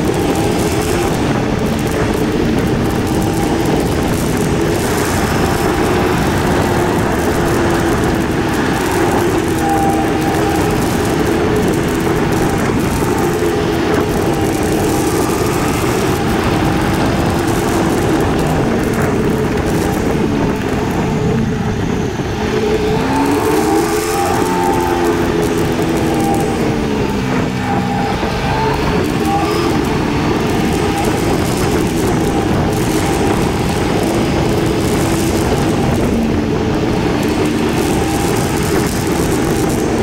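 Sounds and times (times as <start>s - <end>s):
motorcycle engine running: 0.0s - 40.0s
steady rush of noise: 0.0s - 40.0s.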